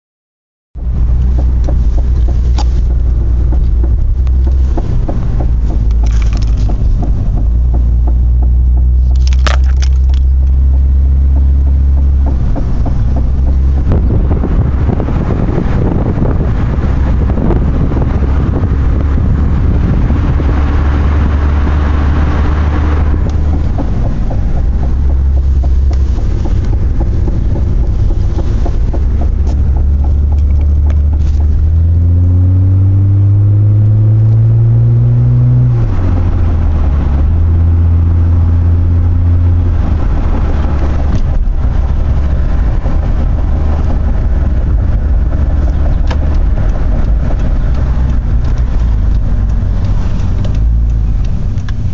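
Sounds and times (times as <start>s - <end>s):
car engine: 0.7s - 51.9s
low thumping rumble: 0.7s - 51.9s
road noise: 0.7s - 51.9s
wind on microphone: 9.7s - 51.9s.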